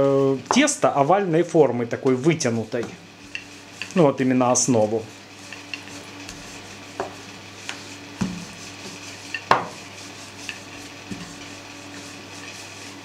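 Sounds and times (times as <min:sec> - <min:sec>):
rolling pin on baking tray: 0:02.1 - 0:13.0.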